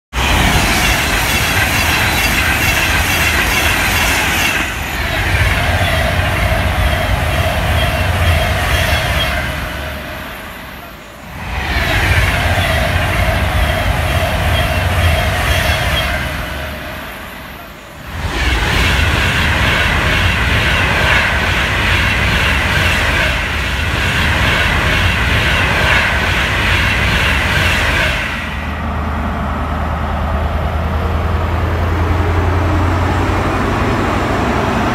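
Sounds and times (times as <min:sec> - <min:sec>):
diesel train engine hum: 0:00.1 - 0:34.9
electric trains passing: 0:00.1 - 0:34.9.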